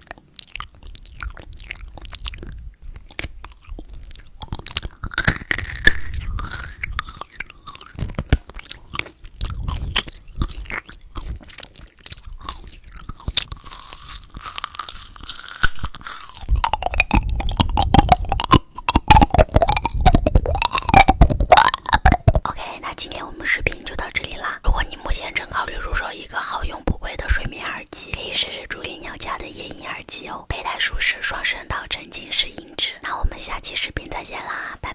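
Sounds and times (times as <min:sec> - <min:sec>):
chewing crunchy candy: 0:00.0 - 0:34.9.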